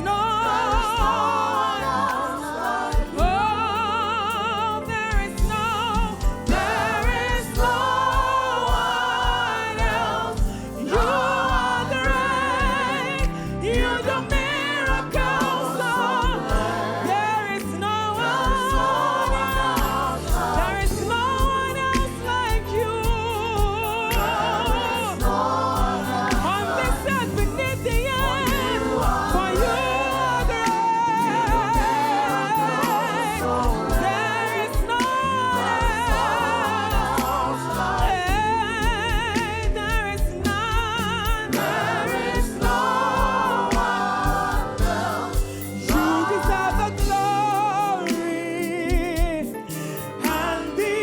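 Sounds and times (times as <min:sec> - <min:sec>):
band with low drum beat: 0:00.0 - 0:51.0
person singing with vibrato: 0:00.0 - 0:51.0.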